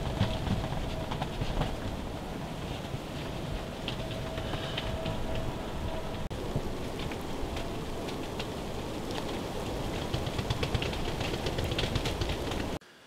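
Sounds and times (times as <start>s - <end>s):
snow ticking on ground: 0.0s - 12.8s
wind rushing: 0.0s - 12.8s.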